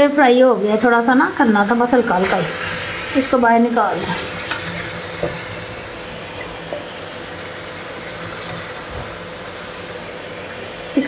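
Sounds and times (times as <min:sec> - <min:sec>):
chicken sizzling in hot fat: 0:00.2 - 0:11.0.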